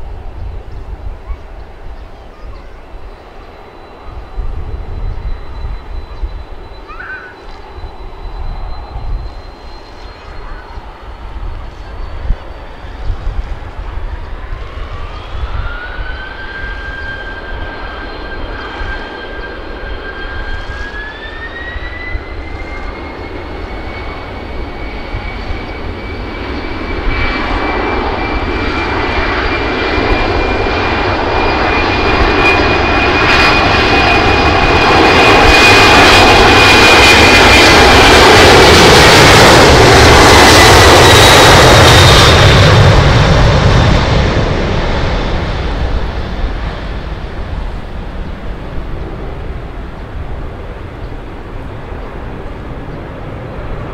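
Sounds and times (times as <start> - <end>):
jet engines spooling up: 2.8 - 53.9.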